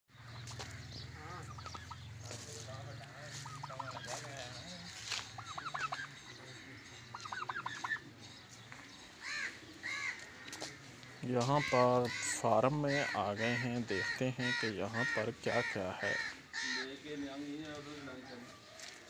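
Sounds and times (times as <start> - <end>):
fowl calling: 0.2 - 8.1, 9.1 - 19.0.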